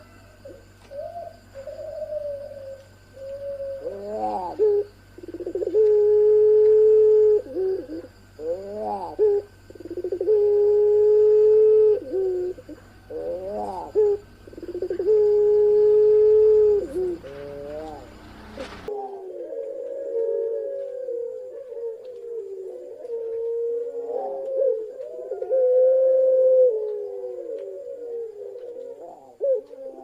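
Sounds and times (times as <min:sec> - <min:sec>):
doves cooing: 0:00.0 - 0:30.0.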